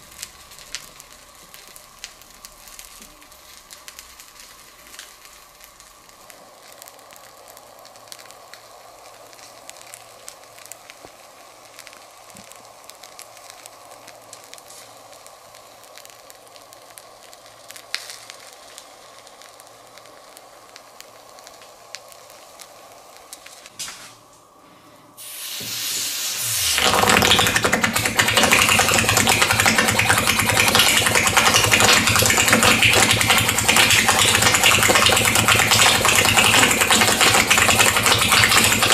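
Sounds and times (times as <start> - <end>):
honey sizzling on hot metal: 0.0 - 24.5, 25.2 - 38.9.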